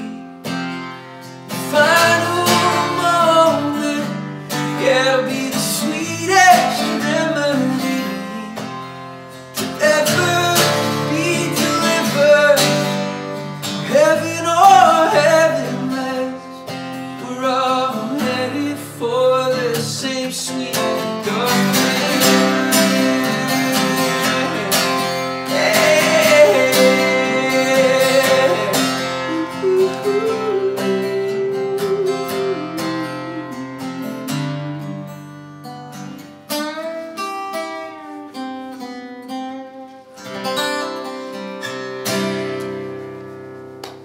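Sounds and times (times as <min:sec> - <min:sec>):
acoustic guitar strummed and picked: 0:00.0 - 0:44.0.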